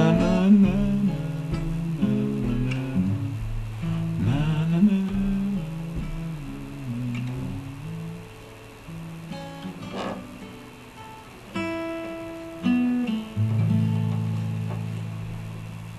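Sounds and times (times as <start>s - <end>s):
acoustic guitar playing: 0.0s - 15.9s.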